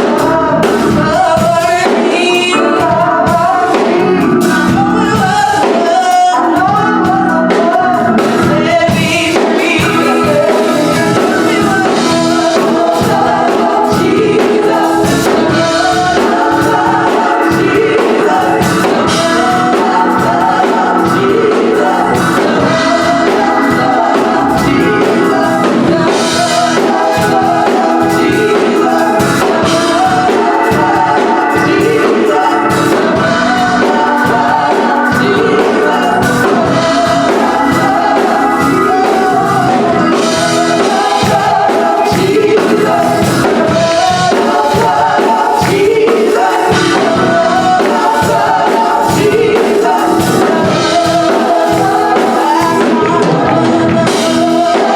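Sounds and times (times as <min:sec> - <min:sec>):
group singing in harmony: 0:00.0 - 0:54.9
instrumental accompaniment with a beat: 0:00.0 - 0:54.9.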